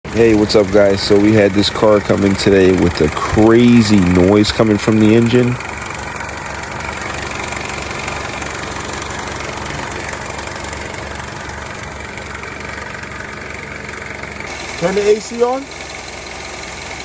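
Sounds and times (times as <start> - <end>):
car engine idling with a rattle: 0.1 - 17.0.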